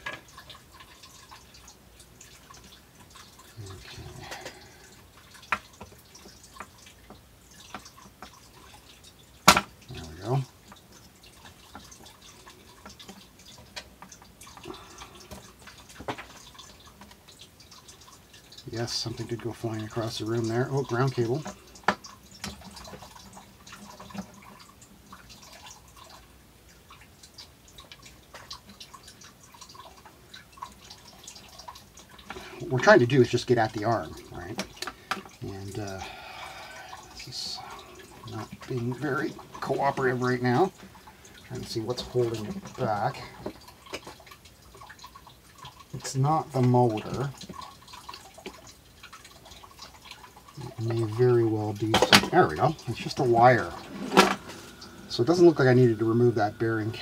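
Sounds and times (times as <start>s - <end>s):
water dripping: 0.0s - 57.0s.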